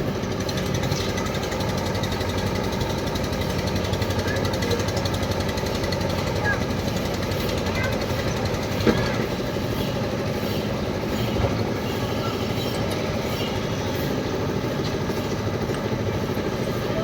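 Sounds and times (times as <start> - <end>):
construction machinery engine rumbling: 0.0 - 17.0.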